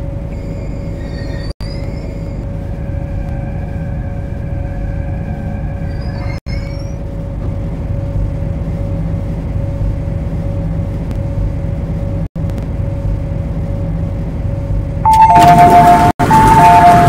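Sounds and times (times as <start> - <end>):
constant mid-pitched hum: 0.0 - 17.0
train low rumble: 0.0 - 17.0.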